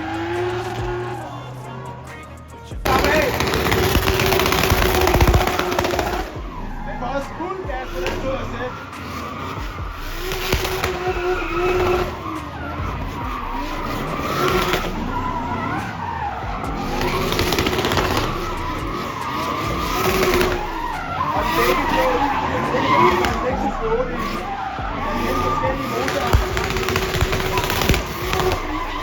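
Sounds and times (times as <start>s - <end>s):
car engine revving: 0.0s - 29.0s
tyres squealing: 0.0s - 29.0s.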